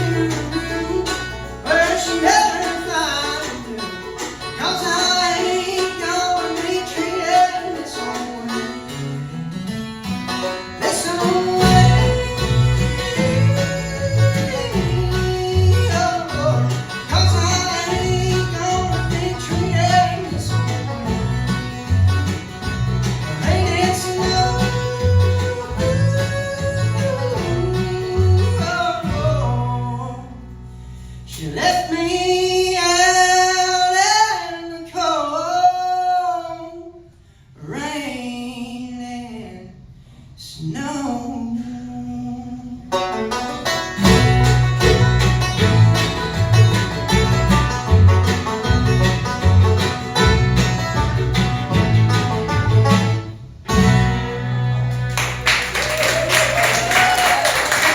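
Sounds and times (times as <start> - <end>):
bluegrass band playing: 0.0 - 34.0, 42.9 - 57.9.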